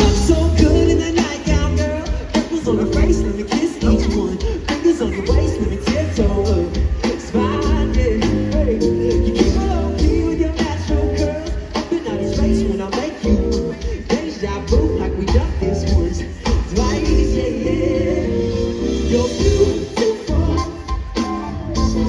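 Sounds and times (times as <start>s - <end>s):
live band playing: 0.0s - 22.0s
person singing: 0.0s - 22.0s
steady drum beat: 0.0s - 22.0s.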